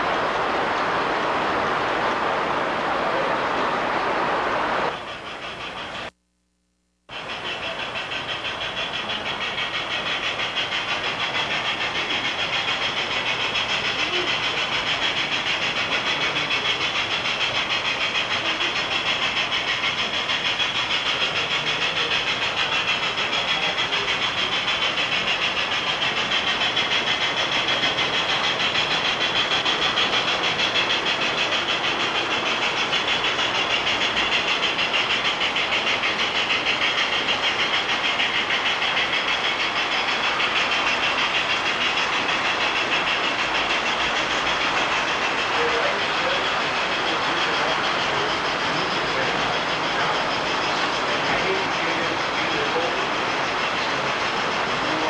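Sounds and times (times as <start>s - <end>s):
model train wheels clicking: 0.0s - 6.2s, 7.1s - 55.0s.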